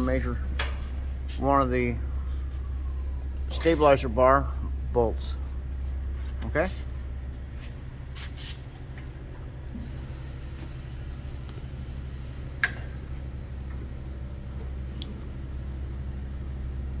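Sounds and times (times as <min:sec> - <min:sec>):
low hum of workshop equipment: 0:00.0 - 0:17.0.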